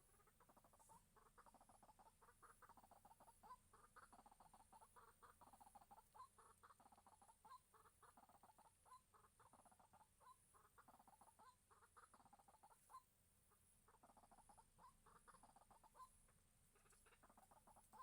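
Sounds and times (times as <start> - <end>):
waterhen clucking calls: 0.0 - 18.0.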